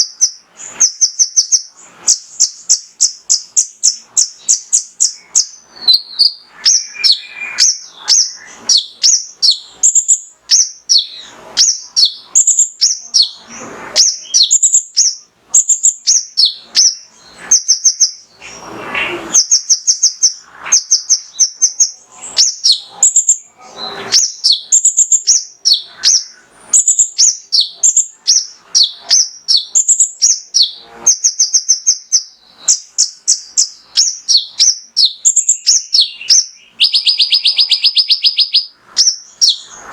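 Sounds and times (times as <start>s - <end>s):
bird singing high chirps and trills: 0.0s - 39.9s.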